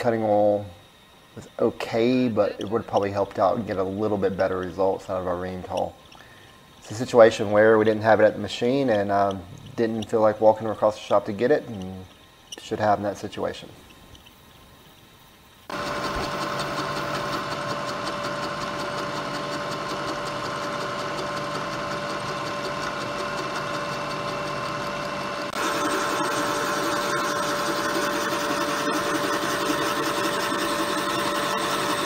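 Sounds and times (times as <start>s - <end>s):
milling machine hum: 0.0s - 32.0s.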